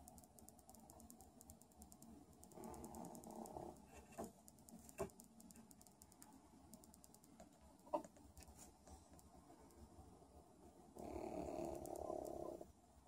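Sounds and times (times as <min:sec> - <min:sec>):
faint ticking: 0:00.0 - 0:09.8, 0:11.0 - 0:12.5.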